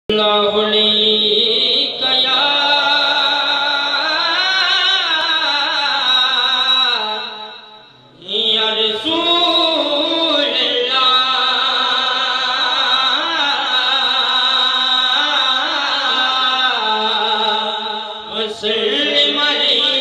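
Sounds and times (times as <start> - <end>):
men singing devotional song: 0.1 - 20.0.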